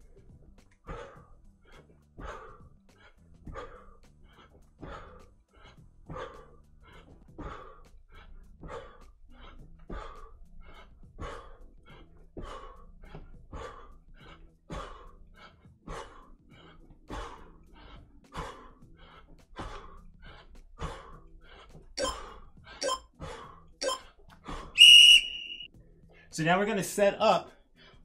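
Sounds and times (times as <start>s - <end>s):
man breathing hard: 0.0s - 24.8s, 27.5s - 28.0s.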